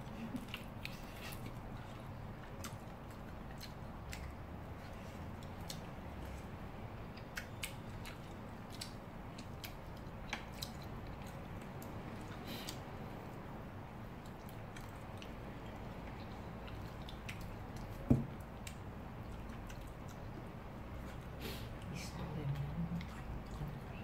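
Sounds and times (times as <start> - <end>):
person chewing: 0.0 - 13.4, 14.0 - 21.9.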